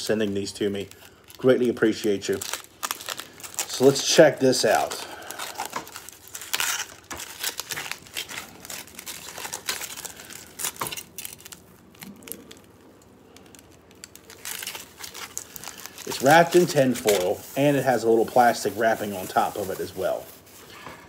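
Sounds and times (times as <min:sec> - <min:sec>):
tin foil crinkling: 0:00.0 - 0:20.8.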